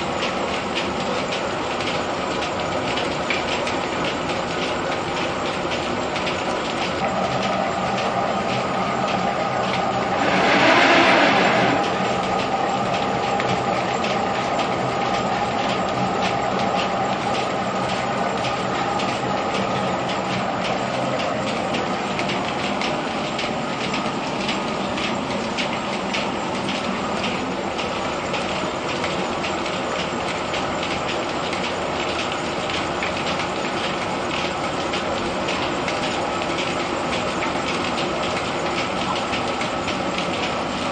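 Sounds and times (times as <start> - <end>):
threshing machine clattering: 0.0 - 40.9.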